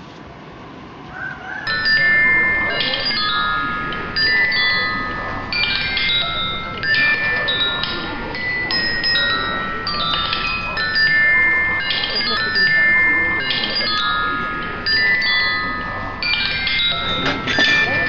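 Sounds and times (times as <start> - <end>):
metal chimes ringing: 1.7 - 18.0.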